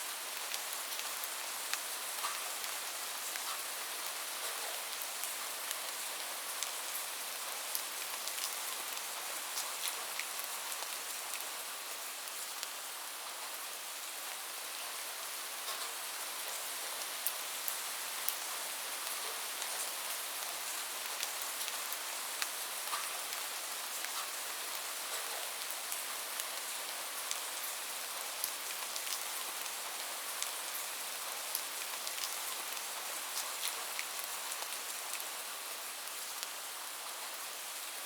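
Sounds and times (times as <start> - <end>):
rain hiss: 0.0 - 38.0.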